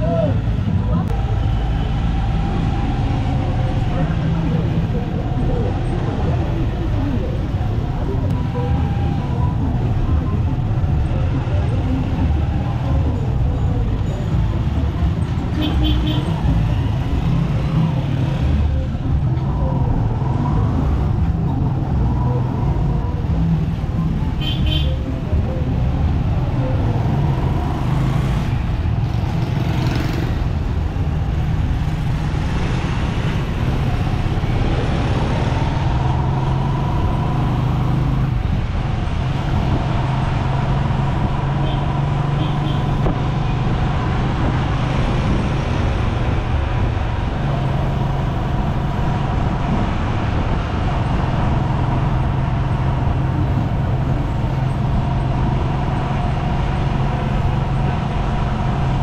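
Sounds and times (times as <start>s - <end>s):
motorcycle engine rumbling: 0.0s - 59.0s
street traffic: 0.0s - 59.0s.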